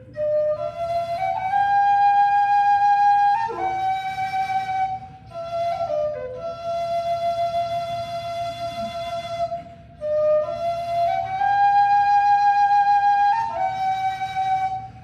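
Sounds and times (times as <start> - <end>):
low whistle playing slow air: 0.0 - 15.0.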